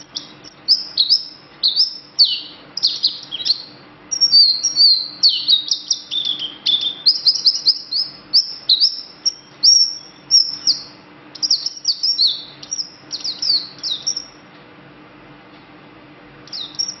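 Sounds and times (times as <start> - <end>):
songbird chirping: 0.0 - 14.5, 16.4 - 17.0.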